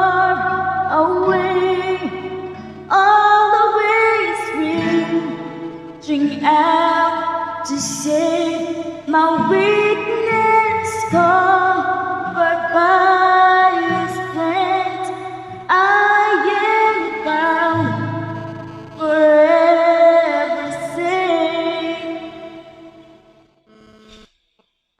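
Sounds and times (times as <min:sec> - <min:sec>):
woman singing a worship song: 0:00.0 - 0:23.0.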